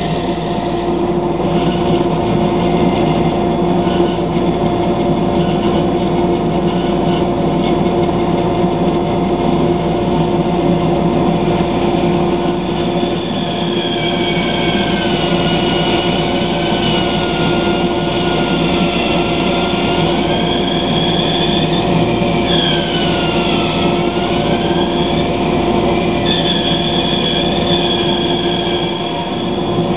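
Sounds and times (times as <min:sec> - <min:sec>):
dust collector running: 0:00.0 - 0:29.9
wavering blade whine: 0:00.0 - 0:29.9.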